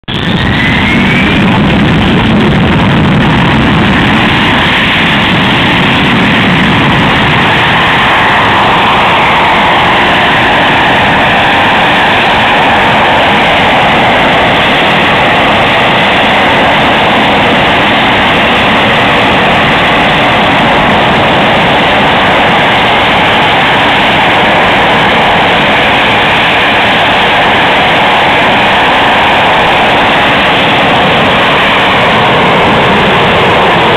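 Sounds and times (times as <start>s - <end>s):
jet engine roaring with whine: 0.0s - 33.9s.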